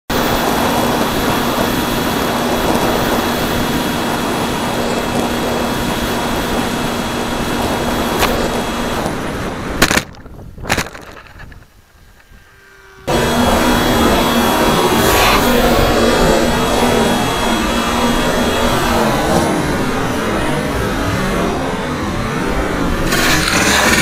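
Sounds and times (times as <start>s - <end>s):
electric motor whine: 0.1s - 9.8s, 10.9s - 24.0s
plane crashing into ground: 0.1s - 24.0s
rushing air: 0.1s - 24.0s.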